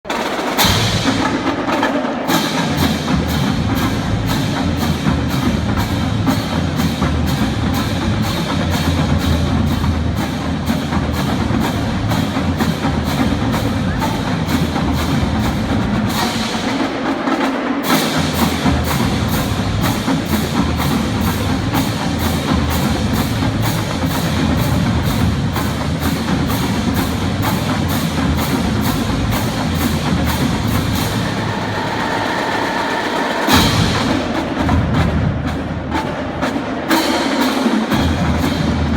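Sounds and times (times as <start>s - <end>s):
fast drum and stick strokes: 0.0s - 38.9s
low band sound: 0.1s - 38.9s.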